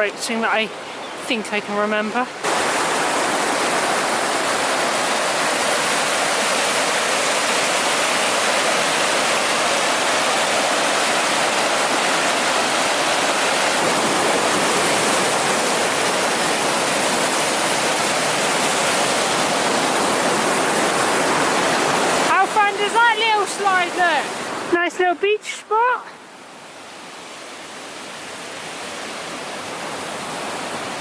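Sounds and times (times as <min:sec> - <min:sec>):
river rushing over rapids: 0:00.0 - 0:31.0.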